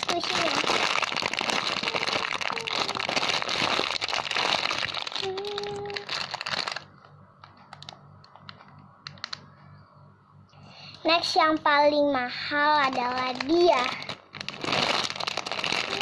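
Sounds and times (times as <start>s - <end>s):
plastic packaging crinkling: 0.0s - 9.5s, 12.6s - 16.0s.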